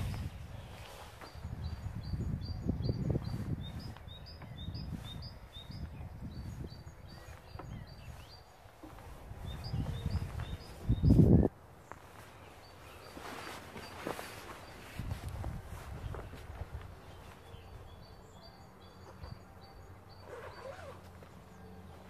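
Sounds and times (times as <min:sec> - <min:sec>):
small bird chirping: 0:00.0 - 0:11.5, 0:12.1 - 0:22.0
low rumbling outdoor noise: 0:00.0 - 0:22.0.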